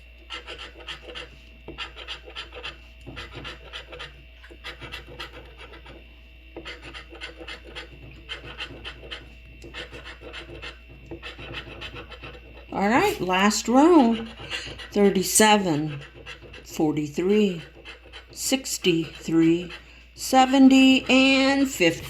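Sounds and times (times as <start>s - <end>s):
lottery ticket being scratched: 0.3s - 6.0s, 6.6s - 22.0s.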